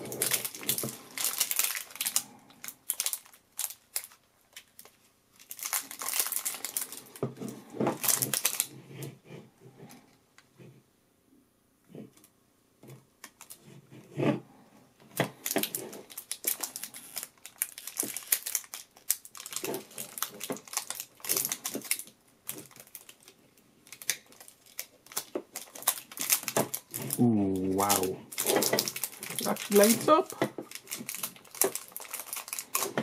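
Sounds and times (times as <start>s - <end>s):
plastic film crinkling: 0.0s - 8.8s, 13.2s - 13.7s, 15.1s - 33.0s.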